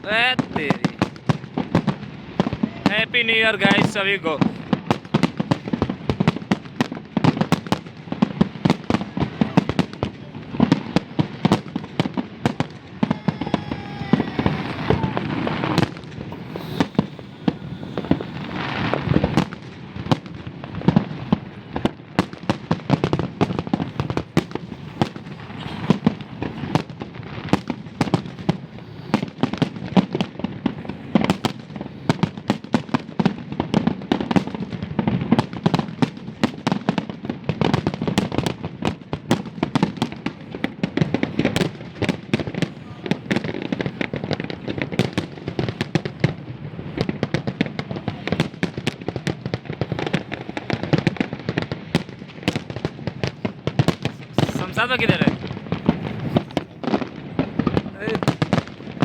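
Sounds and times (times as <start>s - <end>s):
fireworks cracking and banging: 0.0s - 59.0s.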